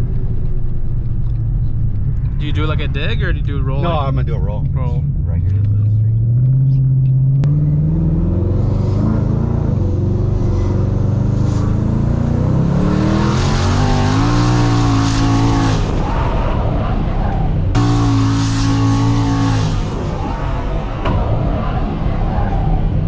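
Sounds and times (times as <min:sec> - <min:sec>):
car engine at full throttle: 0:00.0 - 0:23.0
tyres losing traction: 0:02.2 - 0:23.0.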